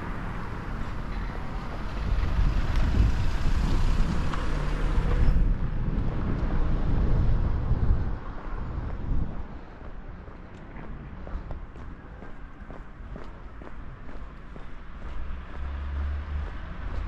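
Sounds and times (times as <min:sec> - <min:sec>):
wind buffeting microphone: 0:00.2 - 0:15.6.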